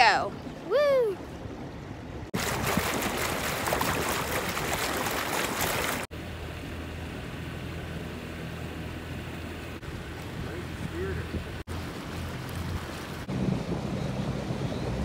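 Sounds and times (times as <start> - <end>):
rushing wind and water: 0.0 - 6.1, 8.2 - 15.0
boat engine hum: 0.0 - 15.0.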